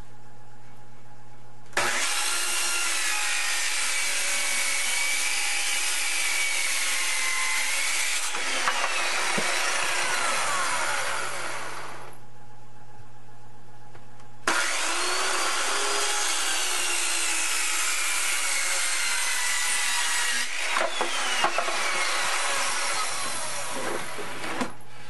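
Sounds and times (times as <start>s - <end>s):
circular saw cutting wood: 1.8s - 12.2s, 14.5s - 24.8s
high saw blade whine: 1.8s - 12.2s, 14.5s - 24.7s.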